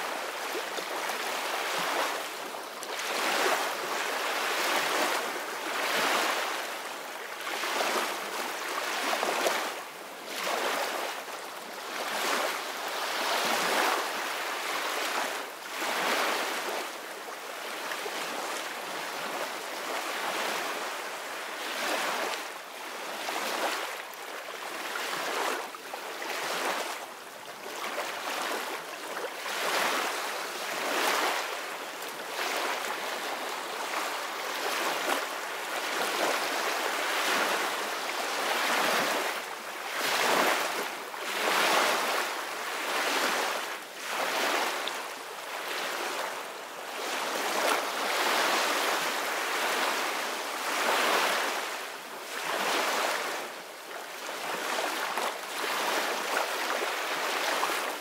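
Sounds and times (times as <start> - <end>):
small waves washing on beach: 0.0 - 58.0.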